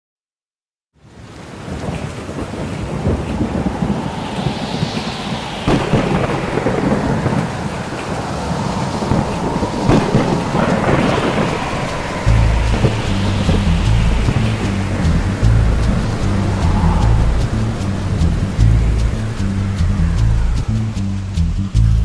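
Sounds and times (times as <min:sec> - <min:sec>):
heavy rain: 0:01.0 - 0:22.0
rolling thunder: 0:01.4 - 0:21.8
sharp thunder crack: 0:01.7 - 0:21.5.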